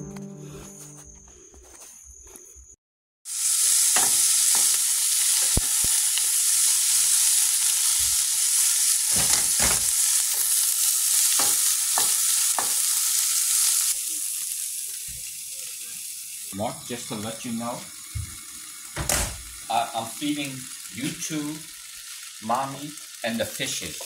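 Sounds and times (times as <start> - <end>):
vegetables sizzling in a frying pan: 3.3 - 24.0.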